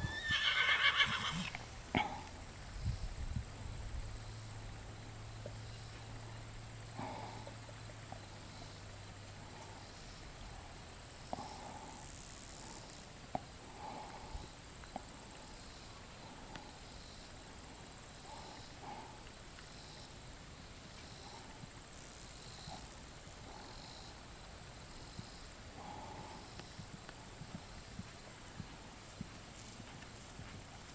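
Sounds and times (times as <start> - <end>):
insects chirring: 0.0 - 30.9.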